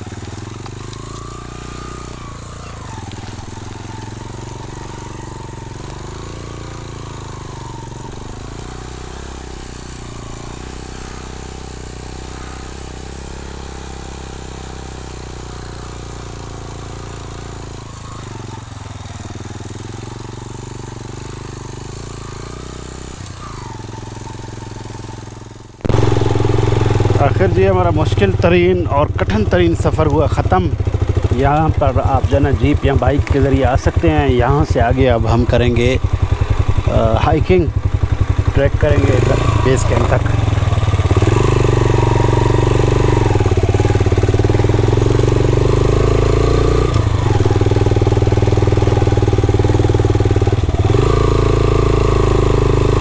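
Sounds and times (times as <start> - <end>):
motorcycle engine at low revs: 0.0 - 53.0.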